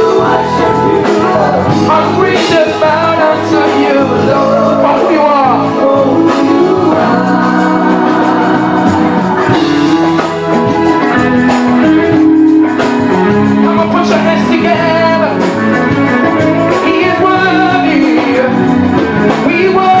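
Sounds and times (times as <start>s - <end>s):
gospel band playing: 0.0s - 20.0s
voices singing long notes: 0.0s - 20.0s.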